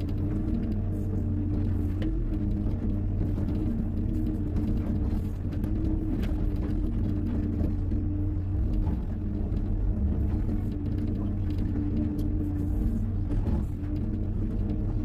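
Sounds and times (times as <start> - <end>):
faint clicks and knocks: 0.0 - 15.0.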